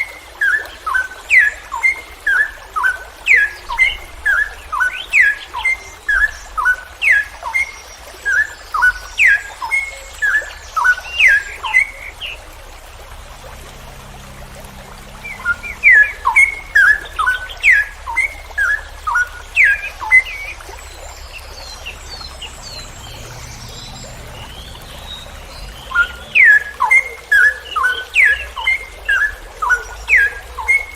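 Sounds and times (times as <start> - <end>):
bird whistling song: 0.4 - 12.4, 15.0 - 30.9.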